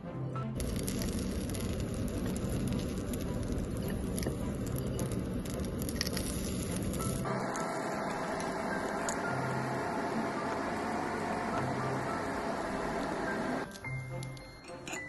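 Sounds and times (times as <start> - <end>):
batter sizzling in hot oil: 0.6 - 13.7.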